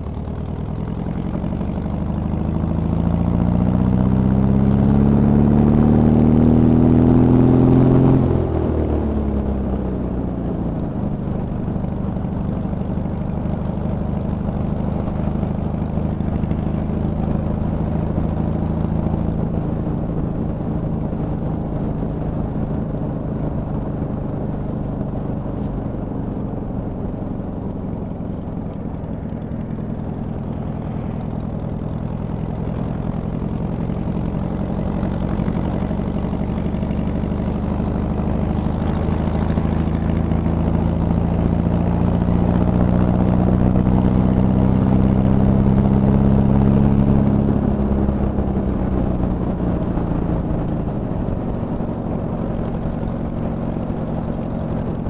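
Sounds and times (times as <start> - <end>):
trike engine running: 0.0 - 55.0.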